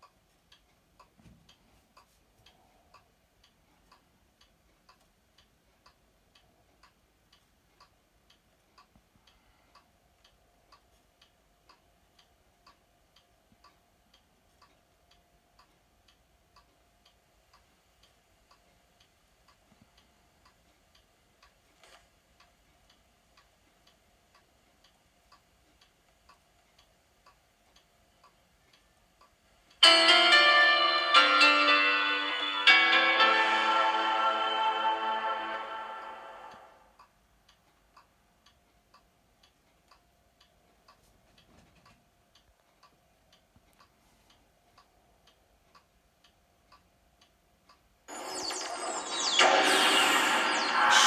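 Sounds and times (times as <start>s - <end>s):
faint regular ticking: 0.0s - 29.9s, 37.0s - 49.1s
faint steady hum: 0.0s - 51.0s.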